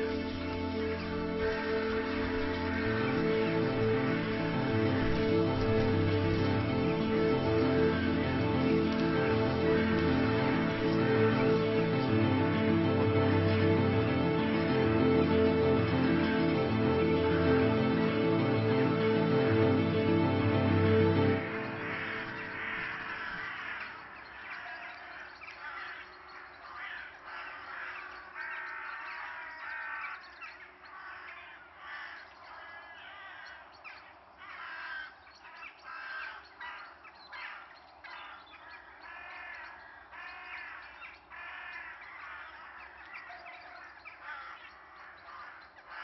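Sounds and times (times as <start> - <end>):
flock of birds calling: 0.0 - 46.0.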